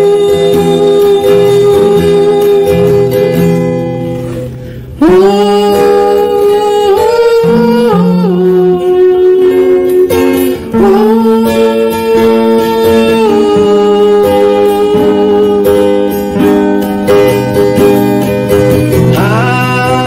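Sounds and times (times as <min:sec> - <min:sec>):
acoustic guitar: 0:00.0 - 0:20.0.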